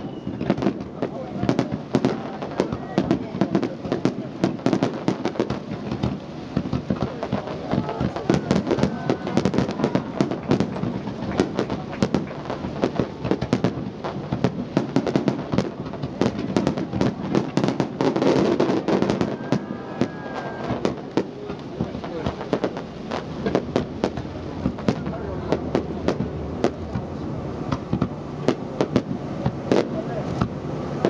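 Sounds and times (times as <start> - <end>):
faint voices: 0.0 - 31.0
fireworks bangs and crackles: 0.0 - 31.0.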